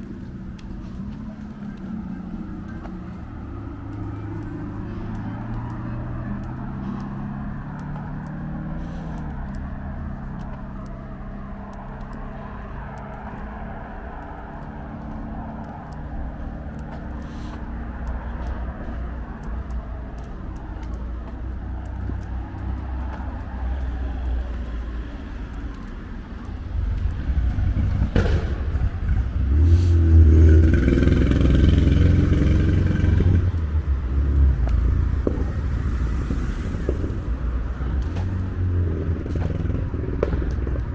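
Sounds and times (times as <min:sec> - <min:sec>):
vehicle engines running: 0:00.0 - 0:40.9
vehicle passing close: 0:00.0 - 0:40.9.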